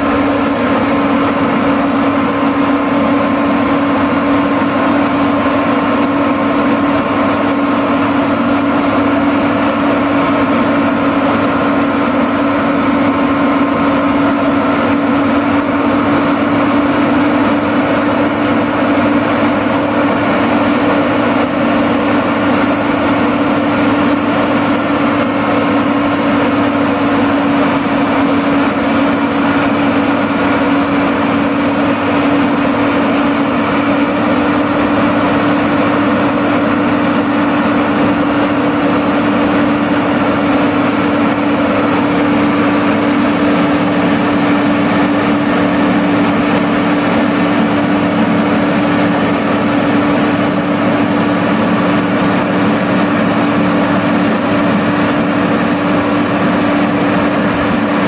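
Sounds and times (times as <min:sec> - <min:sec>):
tractor engine running flat out: 0:00.0 - 0:58.0.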